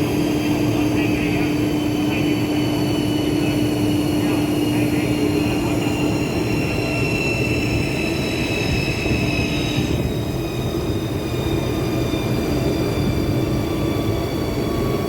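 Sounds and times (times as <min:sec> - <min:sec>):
saw running with high whine: 0:00.0 - 0:15.0.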